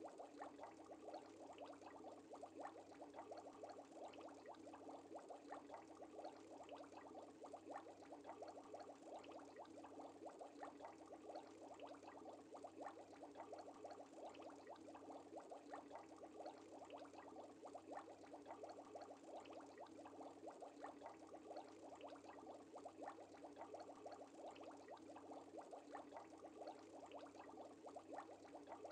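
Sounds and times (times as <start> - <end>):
aquarium water bubbling: 0.0 - 28.9.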